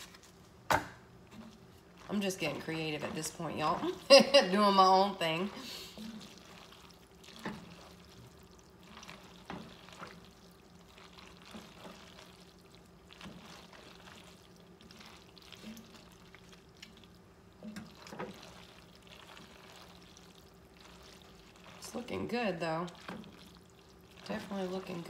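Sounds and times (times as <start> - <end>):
faint steady hum: 0.0 - 25.0
wooden spoon stirring thick mixture: 0.0 - 25.0.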